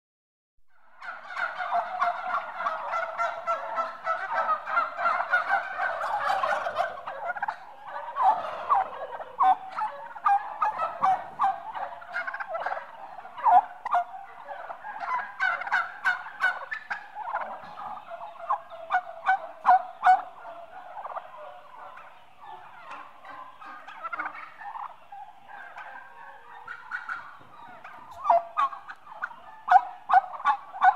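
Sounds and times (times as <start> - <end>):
turkeys calling: 0.7 - 30.9.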